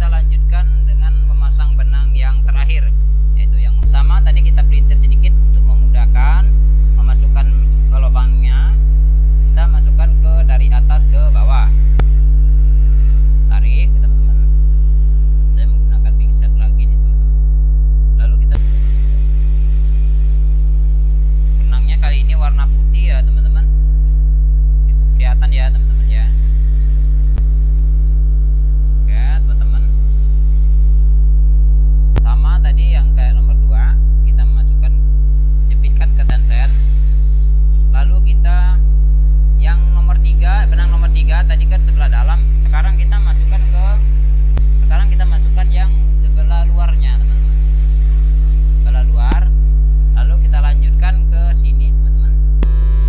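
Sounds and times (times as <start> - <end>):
electrical mains hum: 0.0 - 53.0.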